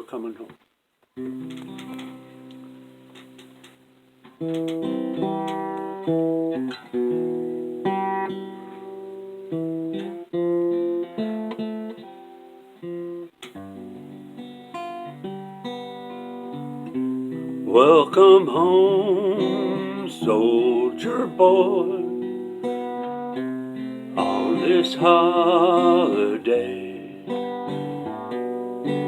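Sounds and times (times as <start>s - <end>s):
acoustic guitar chords: 1.2s - 29.0s.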